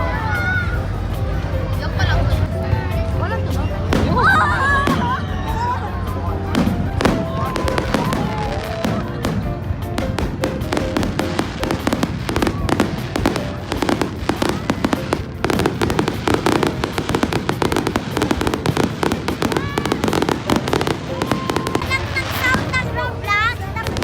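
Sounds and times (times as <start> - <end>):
fireworks crackling and popping: 3.8 - 24.0.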